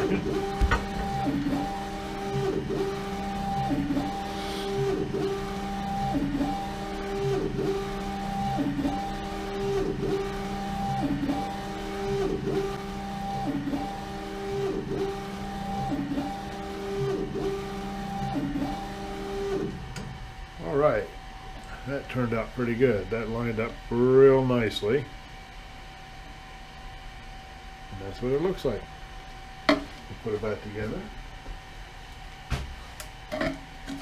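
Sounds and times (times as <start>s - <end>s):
printer carriage motor whine: 0.0s - 34.0s.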